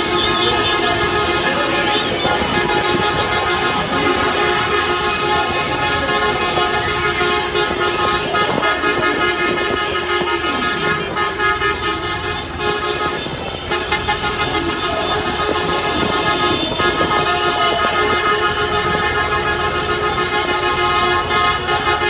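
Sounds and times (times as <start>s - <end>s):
car horns honking: 0.0s - 22.0s.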